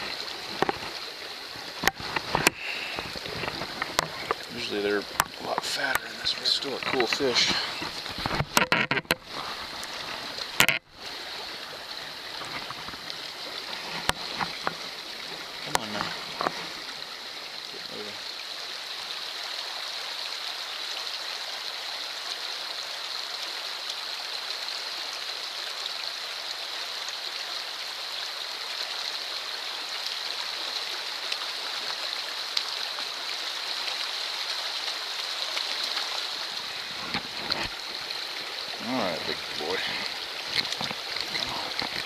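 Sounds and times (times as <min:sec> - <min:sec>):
stream water rushing: 0:00.0 - 0:42.0.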